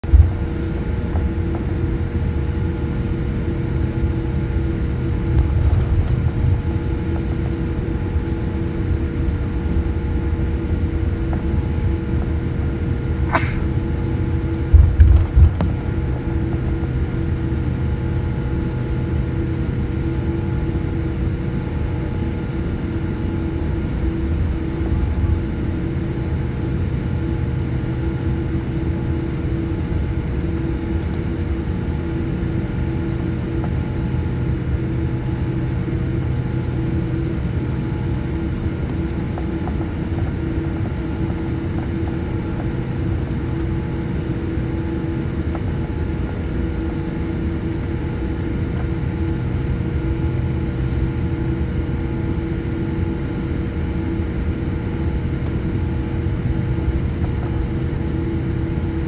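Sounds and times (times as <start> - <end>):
airliner cabin rumble and hum: 0.0 - 59.0.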